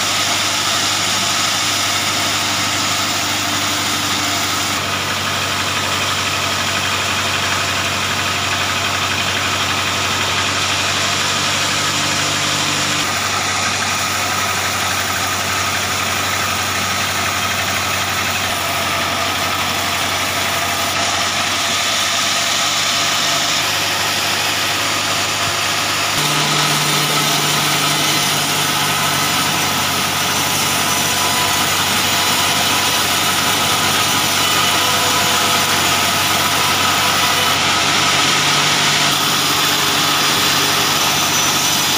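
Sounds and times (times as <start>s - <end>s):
band sawmill cutting log: 0.0s - 41.9s.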